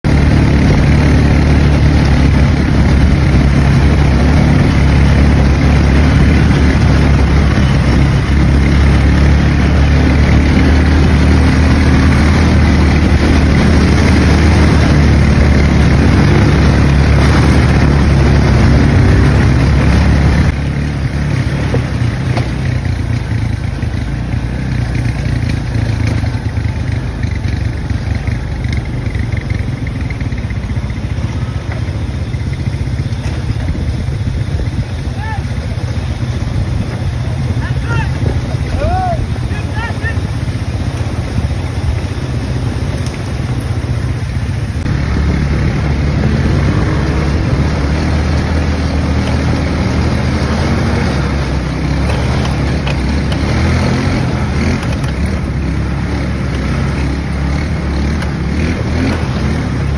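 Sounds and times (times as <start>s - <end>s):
quad bike engines droning: 0.0s - 59.9s.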